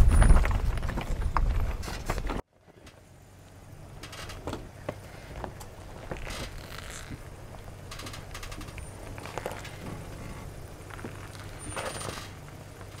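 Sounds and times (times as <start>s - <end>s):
stones crunching under tyres: 0.0s - 13.0s
vehicle engine low rumble: 0.0s - 13.0s.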